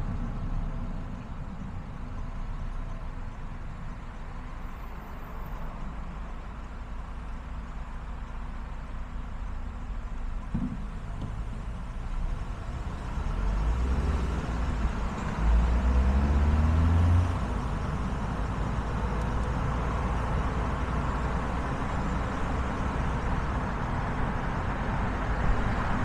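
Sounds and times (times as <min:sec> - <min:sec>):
car engine pulling away: 0:00.0 - 0:26.0
tyre and road noise: 0:00.0 - 0:26.0.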